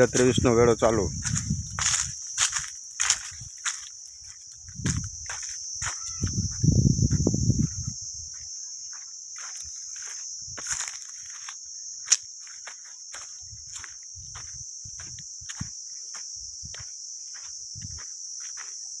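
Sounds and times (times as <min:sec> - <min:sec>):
footsteps crunching on dry leaves: 0:00.0 - 0:19.0
insects buzzing: 0:00.0 - 0:19.0.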